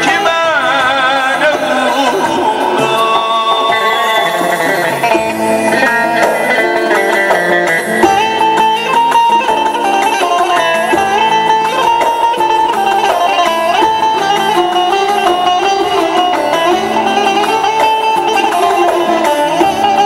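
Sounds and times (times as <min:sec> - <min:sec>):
electric lute plucking a melody: 0:00.0 - 0:20.0
keyboard accompaniment: 0:00.0 - 0:20.0.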